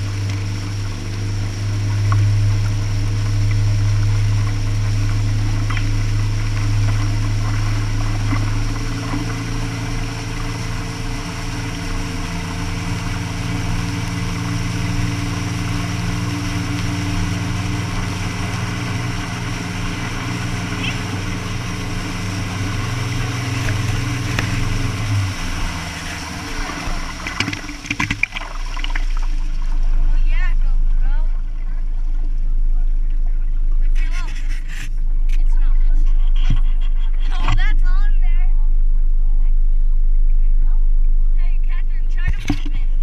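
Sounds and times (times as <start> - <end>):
boat engine humming: 0.0 - 43.0
water rushing along hull: 0.0 - 43.0.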